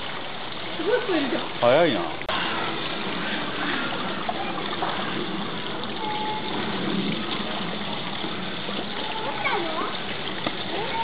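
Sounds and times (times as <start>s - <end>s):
water splashing and churning: 0.0s - 11.0s
waterfall rushing: 0.0s - 11.0s.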